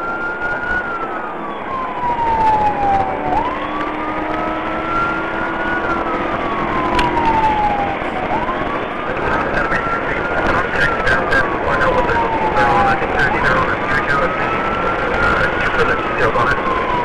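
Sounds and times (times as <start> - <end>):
car engine and road noise: 0.0 - 17.0
police siren wailing: 0.0 - 17.0.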